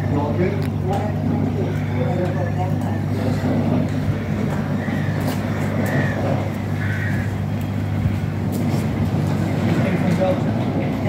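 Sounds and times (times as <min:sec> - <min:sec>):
locomotive diesel drone: 0:00.0 - 0:11.0.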